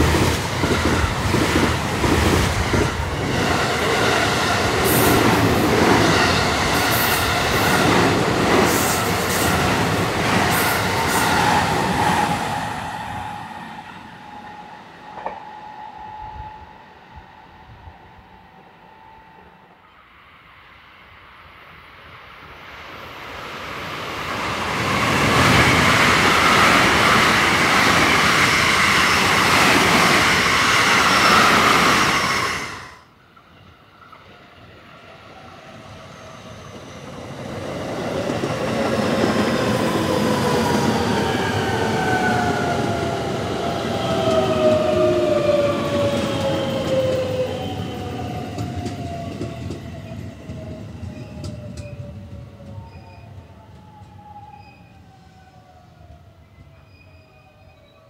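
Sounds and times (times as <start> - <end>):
electric train rushing past: 0.0 - 57.8.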